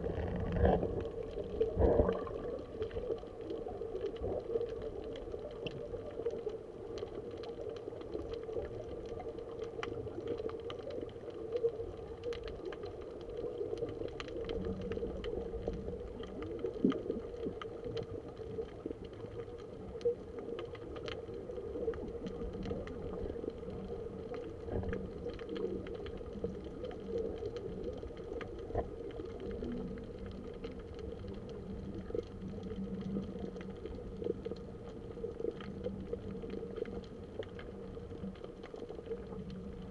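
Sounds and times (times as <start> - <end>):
faint clicks and crackles: 0.0 - 39.9
muffled underwater rumble and hum: 0.0 - 39.9.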